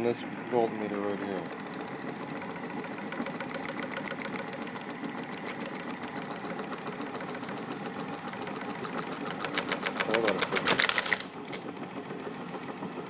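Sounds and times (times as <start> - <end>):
rapid mechanical ticking: 0.0 - 13.0
rotor test rig spinning: 0.0 - 13.0.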